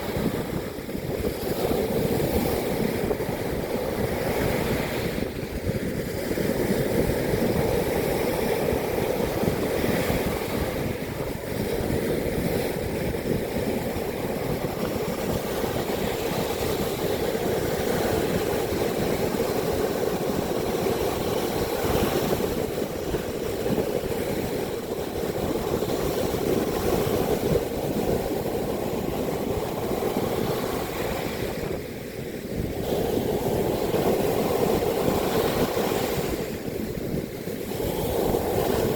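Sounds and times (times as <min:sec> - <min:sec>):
heavy surf rushing: 0:00.0 - 0:38.9
wind buffeting microphone: 0:00.0 - 0:38.9.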